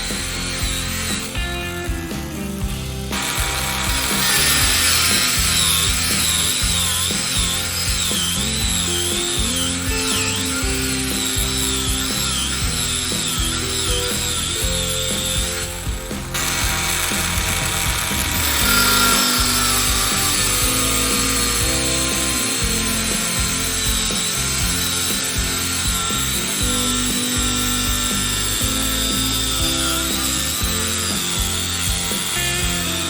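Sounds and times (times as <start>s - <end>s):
background music held notes: 0.0s - 33.0s
wavering high tone: 4.1s - 32.4s.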